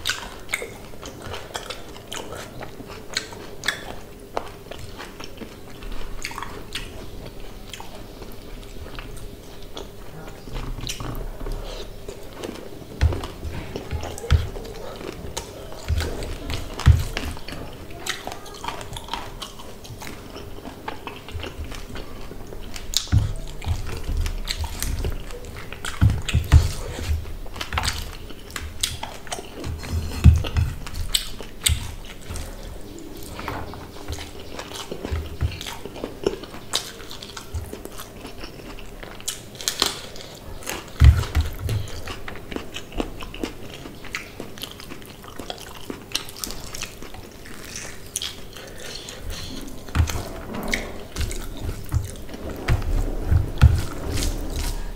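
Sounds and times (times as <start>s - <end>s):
person chewing with mouth smacks: 0.0s - 54.9s.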